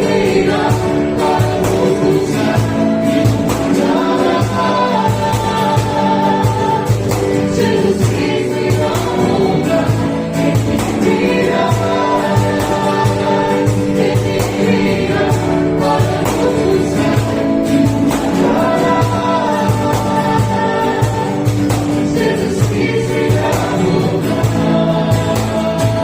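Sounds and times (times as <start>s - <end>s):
group singing gospel song: 0.0s - 26.0s.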